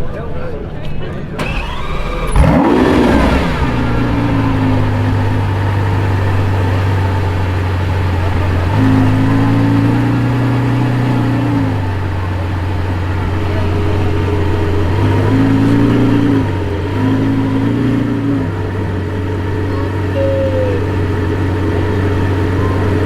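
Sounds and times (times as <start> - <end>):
car engine idling: 1.4 - 23.0.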